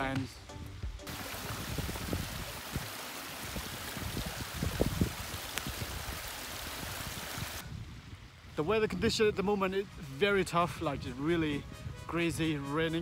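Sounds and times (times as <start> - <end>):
heavy rain hissing: 1.0 - 11.8
wind buffeting microphone: 1.1 - 13.0.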